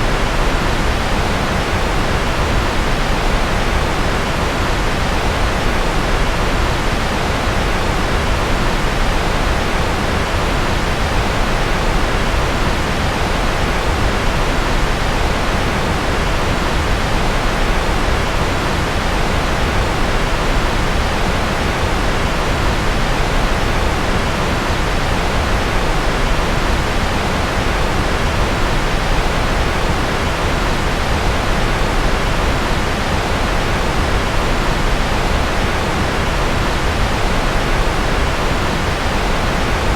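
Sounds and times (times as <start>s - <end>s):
rushing white noise hiss: 0.0s - 39.9s.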